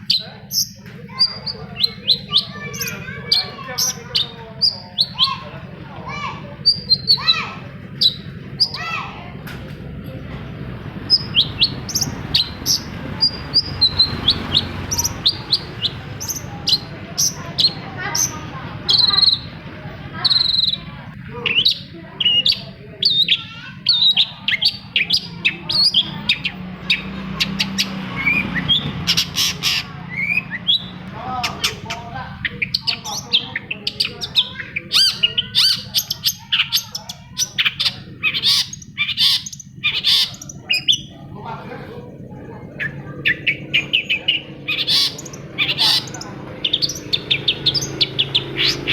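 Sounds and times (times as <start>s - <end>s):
shrike singing: 0.0s - 9.3s, 10.0s - 48.9s.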